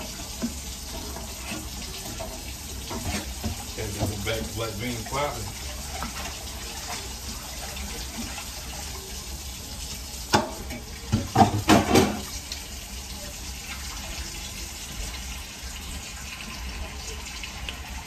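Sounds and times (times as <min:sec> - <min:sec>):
beans simmering with a hiss: 0:00.0 - 0:18.0.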